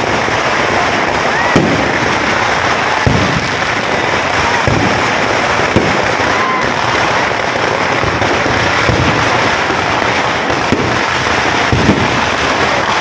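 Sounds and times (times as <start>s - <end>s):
firecrackers crackling: 0.0s - 13.0s
sharp firework bangs: 0.0s - 13.0s.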